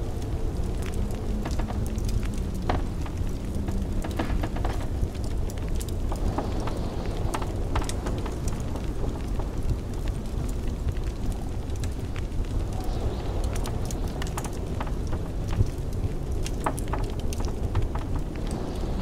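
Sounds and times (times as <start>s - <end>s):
blizzard wind rumble: 0.0s - 19.0s
wood fire crackling: 0.0s - 19.0s.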